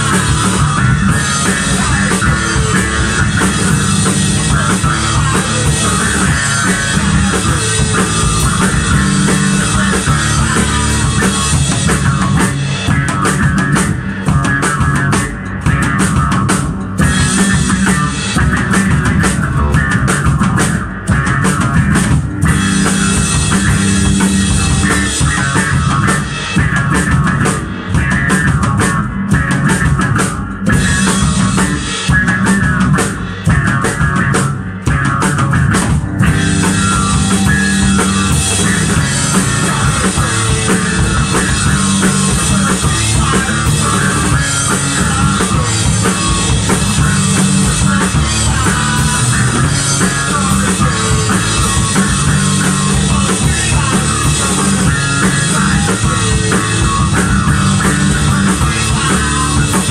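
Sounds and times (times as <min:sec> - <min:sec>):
electric bass guitar: 0:00.0 - 0:59.9
rock drumming: 0:00.0 - 0:59.9.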